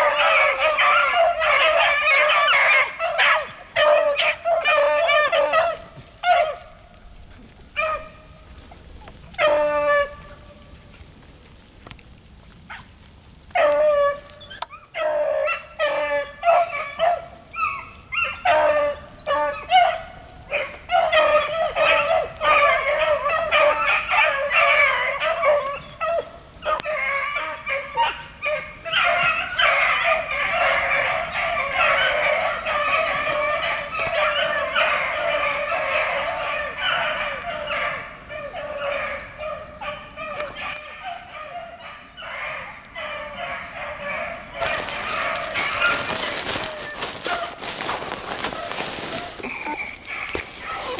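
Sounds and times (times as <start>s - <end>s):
pack of dogs baying: 0.0s - 11.1s, 11.9s - 50.9s.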